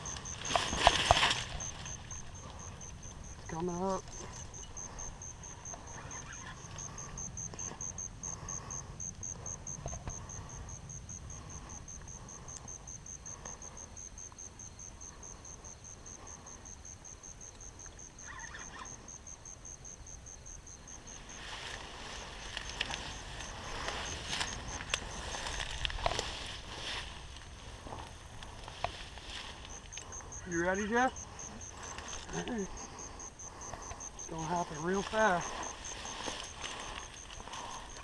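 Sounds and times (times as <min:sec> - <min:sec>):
rustling in tall grass: 0:00.0 - 0:16.7, 0:20.8 - 0:38.0
insect chirping: 0:00.0 - 0:38.0.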